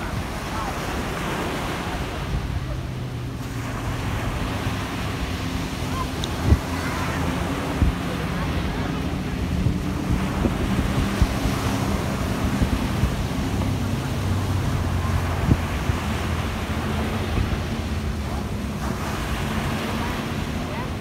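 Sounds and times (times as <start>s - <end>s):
small waves washing up beach: 0.0s - 21.0s
wind buffeting microphone: 0.0s - 21.0s.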